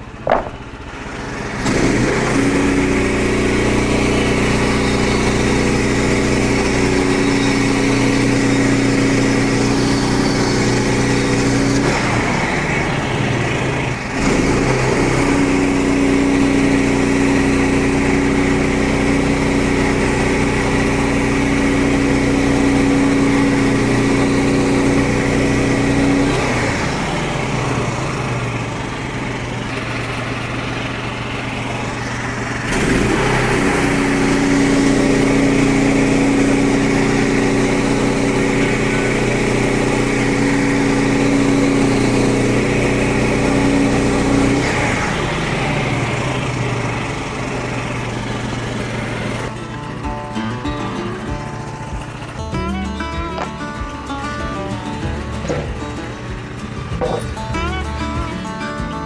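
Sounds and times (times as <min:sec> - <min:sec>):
small gasoline engine running: 0:00.0 - 0:59.0.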